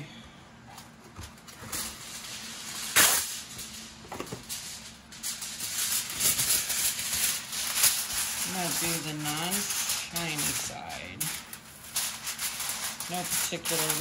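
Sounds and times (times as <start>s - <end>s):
aluminium foil rustling: 0.7s - 14.0s
plastic wrap crinkling: 0.9s - 14.0s.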